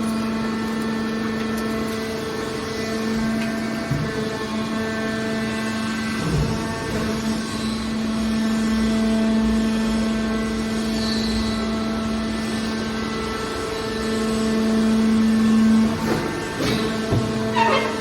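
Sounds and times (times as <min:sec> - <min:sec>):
hydraulic baler humming: 0:00.0 - 0:10.8, 0:11.6 - 0:18.0.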